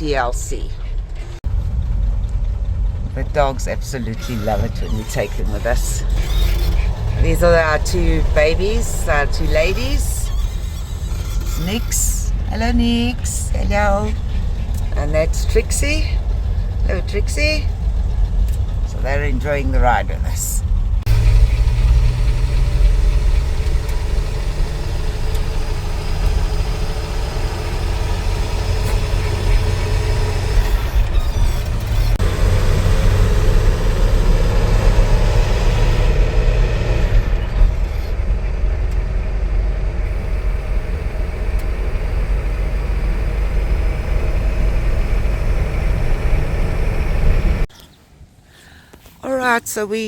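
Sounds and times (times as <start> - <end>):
truck engine and road noise: 0.0 - 50.0.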